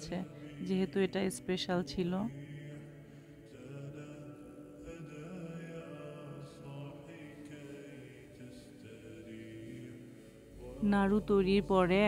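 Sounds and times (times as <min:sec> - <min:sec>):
slow vocal chant: 0:00.0 - 0:12.0.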